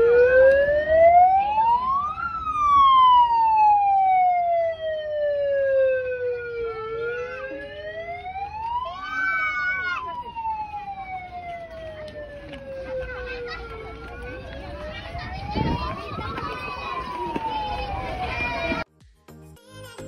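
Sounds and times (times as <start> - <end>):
megaphone siren wailing: 0.0 - 18.8.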